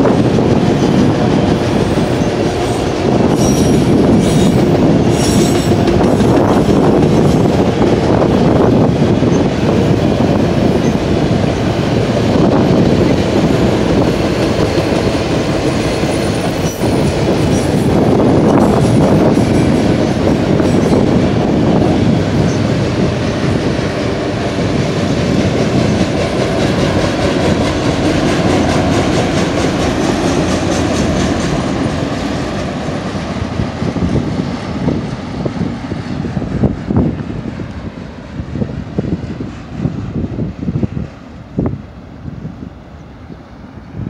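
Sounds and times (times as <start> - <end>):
freight train wheels rumbling: 0.0 - 44.0
gusty noise: 0.0 - 44.0.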